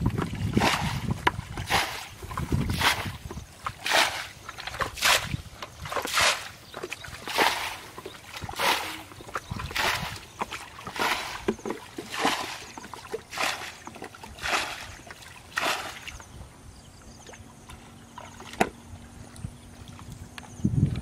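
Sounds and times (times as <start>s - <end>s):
water splashing from bucket: 0.0s - 16.3s, 17.3s - 18.8s.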